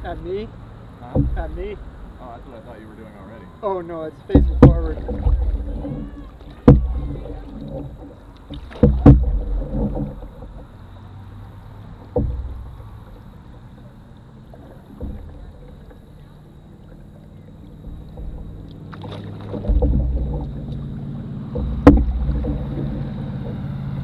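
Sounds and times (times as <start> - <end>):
paddle knocking against canoe hull: 1.0 - 2.1, 4.0 - 11.0, 11.9 - 24.0.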